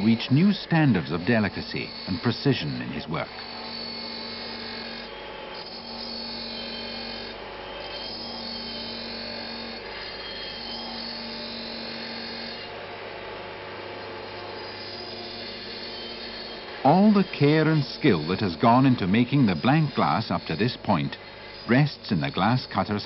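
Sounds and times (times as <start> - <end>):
glass-cutting wheel hum: 0.0 - 23.0
glass grinding: 0.1 - 12.7, 14.0 - 23.0.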